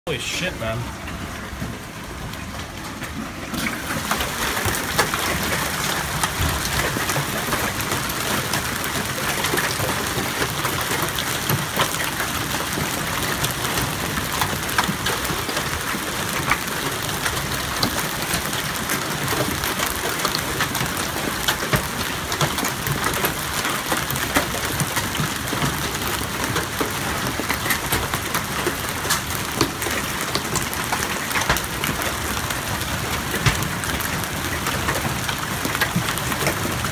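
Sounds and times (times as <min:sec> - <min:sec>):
hailstones striking cars and ground: 0:00.1 - 0:36.9.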